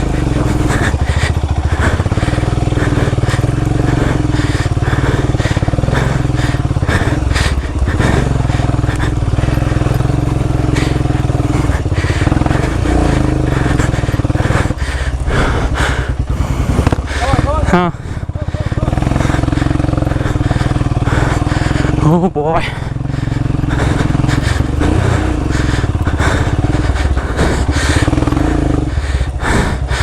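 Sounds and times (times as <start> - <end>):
motorcycle engine running hard: 0.0 - 30.0.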